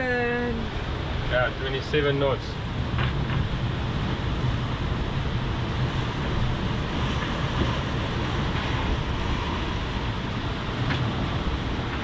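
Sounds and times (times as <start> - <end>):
strong wind buffeting microphone: 0.0 - 12.0
waves and water past hulls: 0.0 - 12.0.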